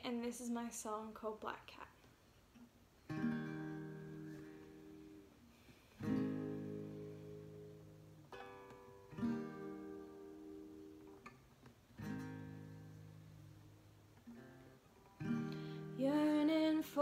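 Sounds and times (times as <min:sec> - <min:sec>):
acoustic guitar strummed chords: 0:03.1 - 0:17.0.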